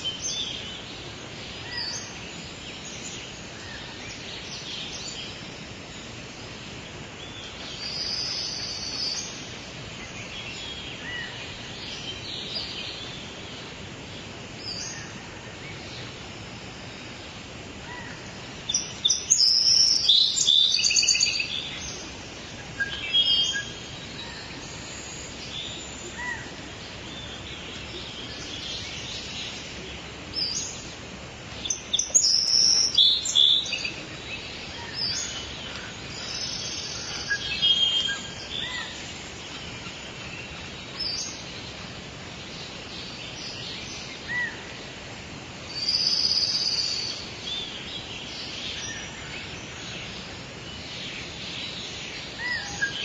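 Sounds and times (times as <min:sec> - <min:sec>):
songbirds singing: 0:00.0 - 0:53.0
steady background hiss: 0:00.0 - 0:53.0.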